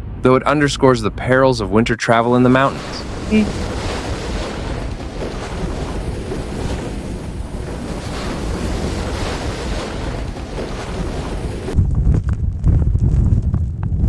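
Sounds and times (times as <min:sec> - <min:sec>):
wind blowing across microphone: 0:02.2 - 0:14.0.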